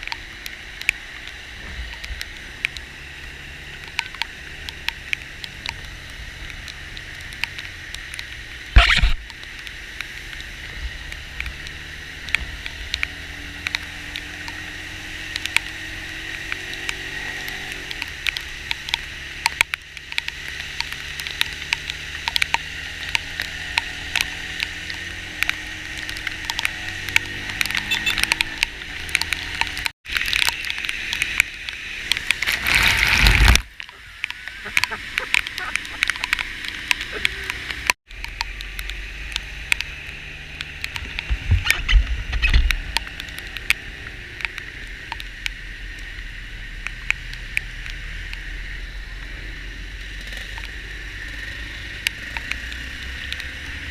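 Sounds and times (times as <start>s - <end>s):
surges of rushing water: 0.0s - 53.9s
vehicle engine drone: 0.0s - 53.9s.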